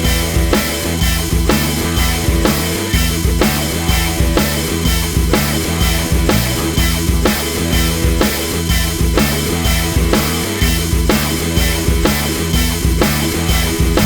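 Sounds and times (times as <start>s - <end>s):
rock music with drums and guitar: 0.0s - 14.0s.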